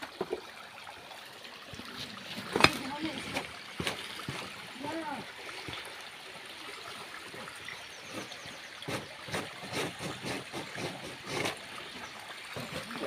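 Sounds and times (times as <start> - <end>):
water trickling into basins: 0.0 - 13.0.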